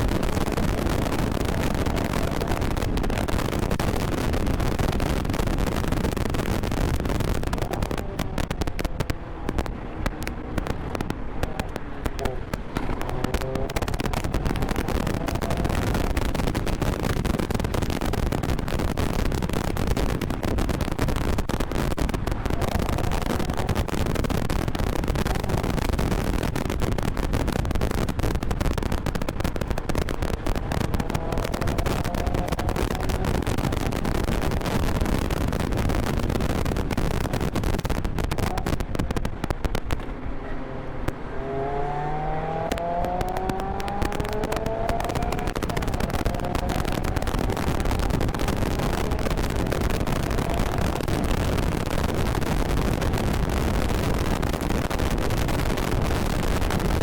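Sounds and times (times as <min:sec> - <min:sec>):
car engine revving: 0:00.0 - 0:57.0
wind buffeting microphone: 0:00.0 - 0:57.0.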